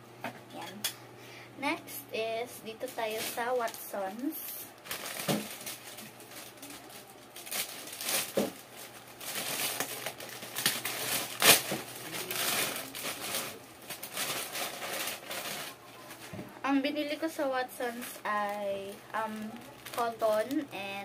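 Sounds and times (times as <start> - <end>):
plastic bag rustling: 2.7 - 16.6, 17.5 - 21.0.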